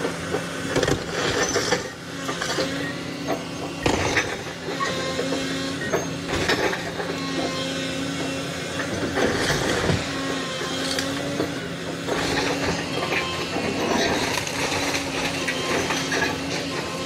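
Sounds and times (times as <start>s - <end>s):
excavator engine and hydraulic drone: 0.0s - 17.0s.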